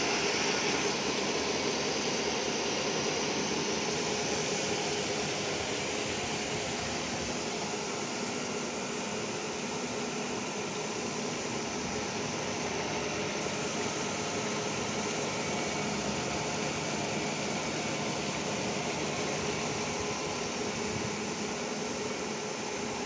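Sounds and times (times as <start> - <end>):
grinding machine hiss: 0.0 - 23.0.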